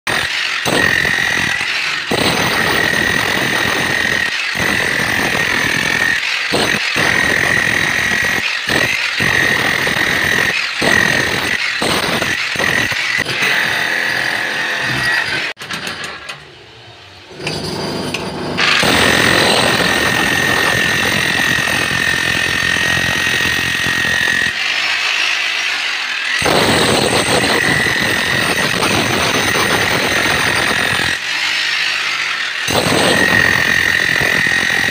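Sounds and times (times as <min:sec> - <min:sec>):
rotary hammer chiselling concrete: 0:00.1 - 0:15.6, 0:18.6 - 0:34.9.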